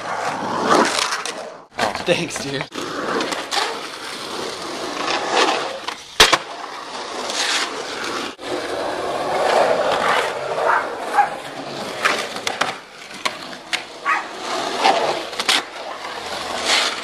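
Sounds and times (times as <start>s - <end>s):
skateboard wheels rolling on concrete: 0.0s - 17.0s.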